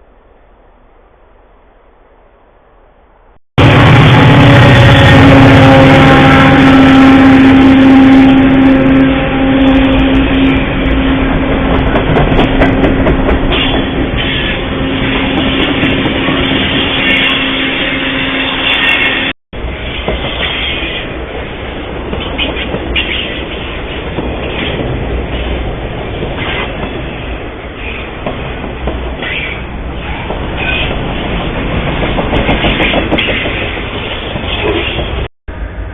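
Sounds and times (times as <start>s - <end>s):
steady train tone: 0.0s - 35.9s
train rumbling past: 0.0s - 35.9s.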